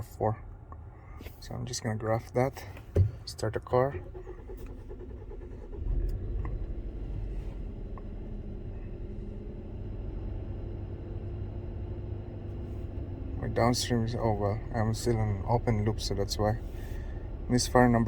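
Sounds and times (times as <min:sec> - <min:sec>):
car engine starting and idling: 0:00.0 - 0:18.0.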